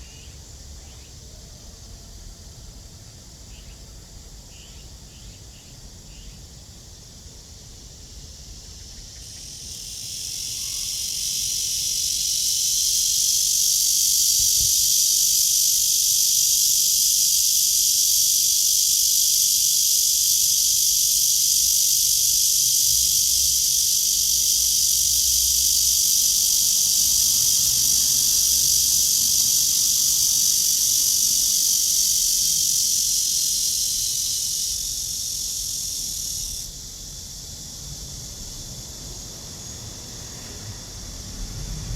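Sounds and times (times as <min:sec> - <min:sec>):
cicada buzzing: 0:08.1 - 0:41.9.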